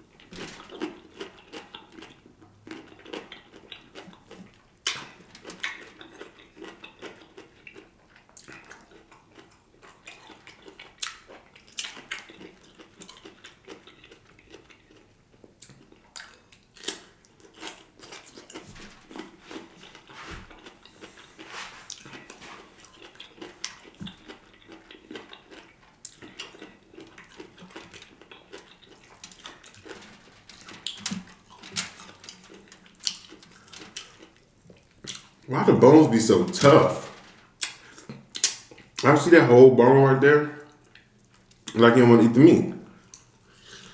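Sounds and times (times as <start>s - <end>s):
man chewing and smacking: 0.0s - 39.1s, 40.7s - 41.8s, 42.8s - 43.9s.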